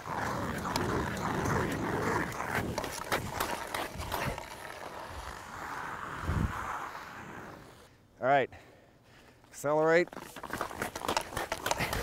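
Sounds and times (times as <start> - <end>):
clicks of edges and stick on ice: 0.0 - 7.9, 9.9 - 12.0
skate blades scraping on ice: 0.0 - 7.9, 9.8 - 12.0.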